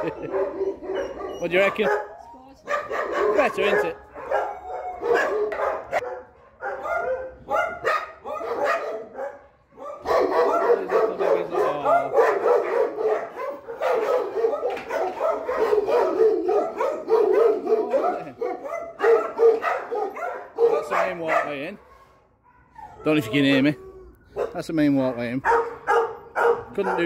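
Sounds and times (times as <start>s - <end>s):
dogs barking: 0.0s - 27.0s.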